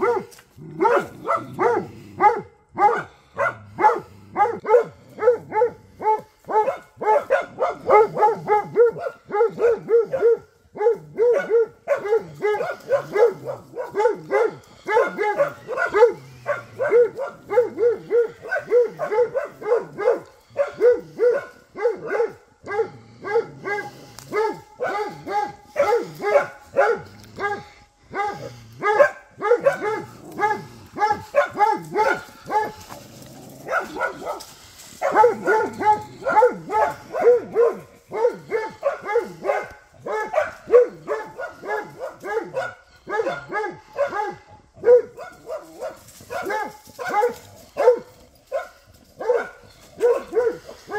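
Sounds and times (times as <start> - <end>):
dog barking fast: 0.0 - 32.9, 33.6 - 50.9.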